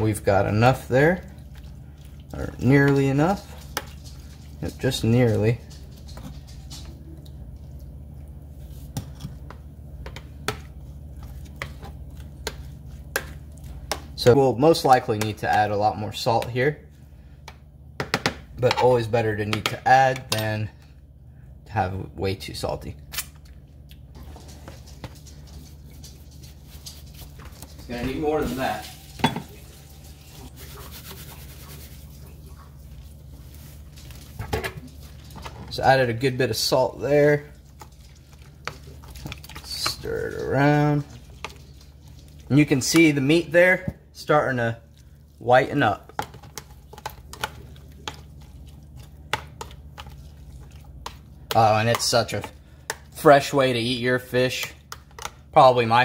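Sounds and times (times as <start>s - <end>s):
metal spoon stirring wet food: 0.0s - 16.6s, 24.1s - 56.0s
steady low hum: 0.0s - 55.6s.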